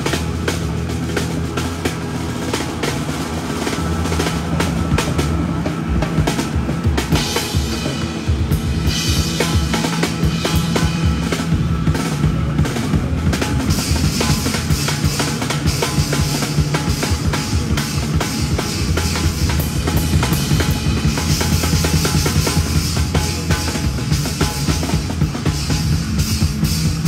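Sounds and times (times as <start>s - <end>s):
cymbals washing: 0.0s - 27.0s.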